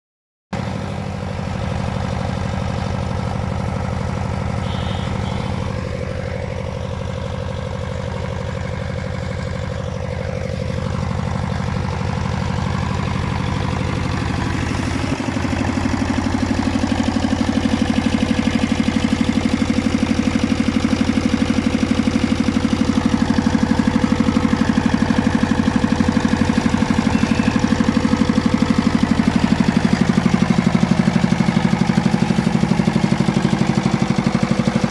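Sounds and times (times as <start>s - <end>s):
diesel generator running: 0.5s - 34.9s.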